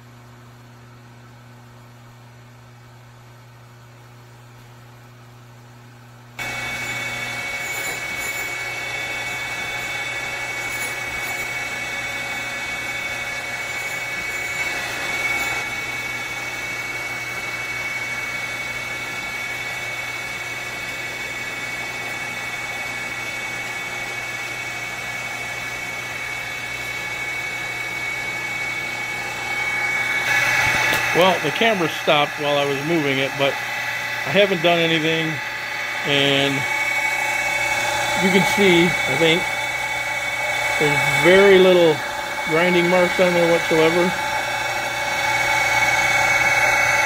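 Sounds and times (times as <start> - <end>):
grinding wheel on metal: 6.4 - 47.0.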